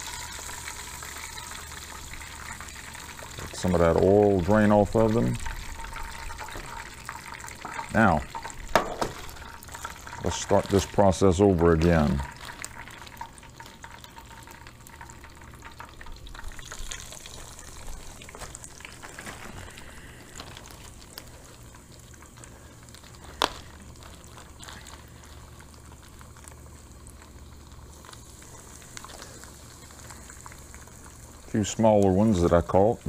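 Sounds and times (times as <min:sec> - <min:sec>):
fish sizzling in hot oil: 0:00.0 - 0:33.0
oil crackles: 0:00.0 - 0:33.0.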